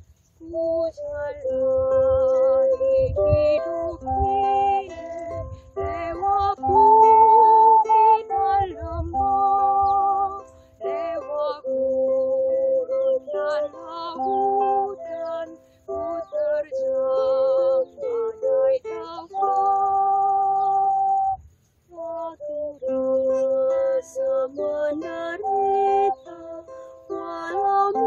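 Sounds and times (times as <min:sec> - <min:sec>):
small wind instrument: 0:00.0 - 0:28.0
strummed ukulele: 0:00.1 - 0:28.0
woman singing gently: 0:00.4 - 0:28.0.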